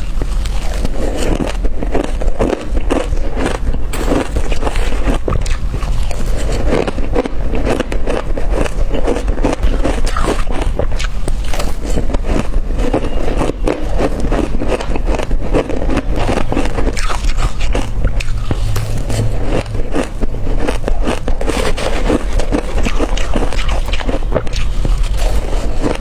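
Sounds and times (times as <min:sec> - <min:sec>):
crunching crushed ice: 0:00.0 - 0:18.8, 0:19.6 - 0:26.0.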